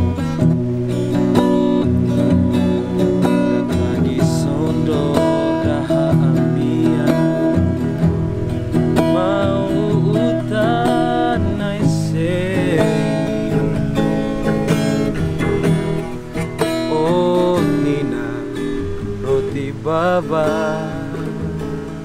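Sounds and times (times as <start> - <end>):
acoustic guitar strummed and picked: 0.0 - 22.0
man singing slow sorrowful song: 1.3 - 14.2, 15.2 - 22.0.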